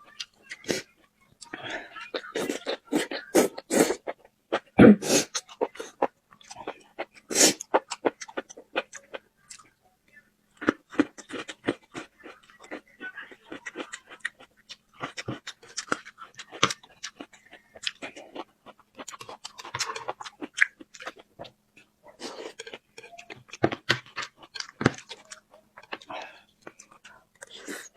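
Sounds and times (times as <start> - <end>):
chewing and crunching: 0.0 - 9.8, 10.6 - 27.9
faint steady hum: 0.0 - 27.9.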